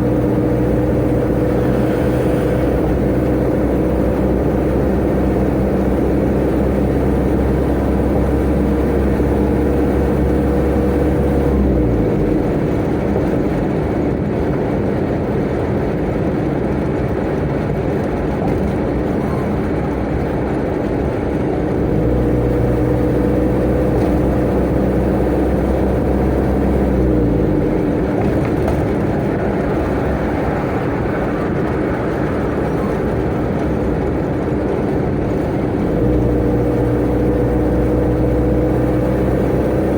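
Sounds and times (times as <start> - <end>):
road and tyre noise: 0.0 - 39.9
truck engine running: 0.0 - 39.9.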